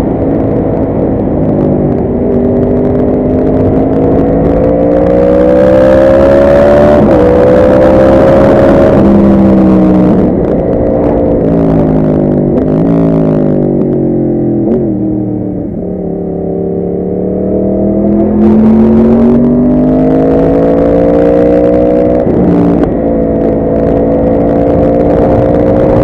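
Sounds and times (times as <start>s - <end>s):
motorcycle engine revving: 0.0s - 26.0s
wind noise: 0.0s - 26.0s.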